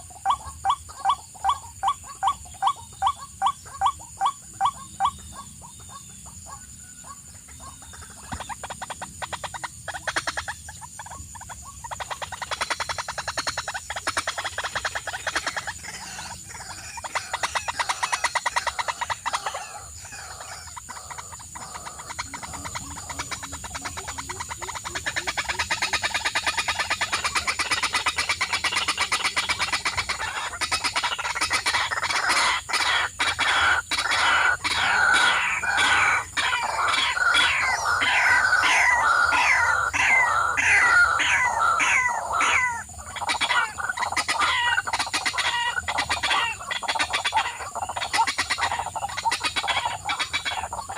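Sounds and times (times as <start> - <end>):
birds chirping rapidly: 0.0 - 50.9
repeated falling bird calls: 0.0 - 50.9.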